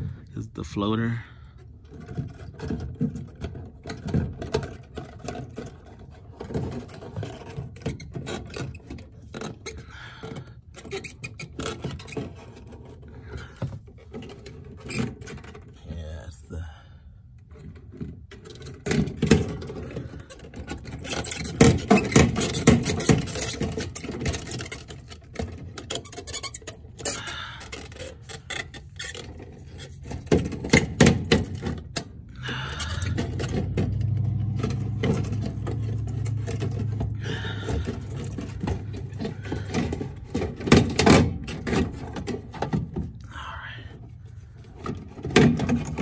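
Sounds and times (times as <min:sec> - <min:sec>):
plastic knocking and scraping: 0:01.8 - 0:15.8, 0:17.4 - 0:27.1, 0:27.7 - 0:32.2, 0:33.0 - 0:43.2, 0:44.6 - 0:46.0.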